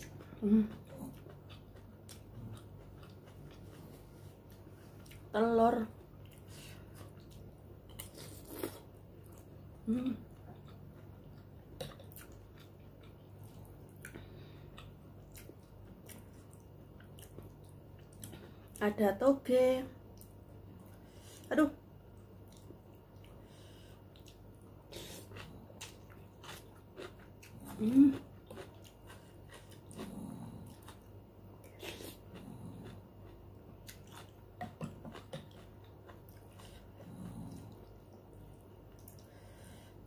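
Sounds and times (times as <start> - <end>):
chewing noodles: 0.0 - 9.7, 10.3 - 18.8, 22.1 - 39.6.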